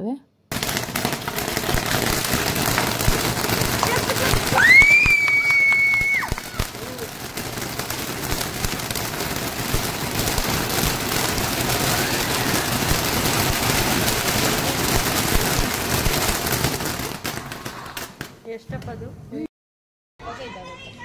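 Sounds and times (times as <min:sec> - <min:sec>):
firework fountain hissing and crackling: 0:00.5 - 0:18.5.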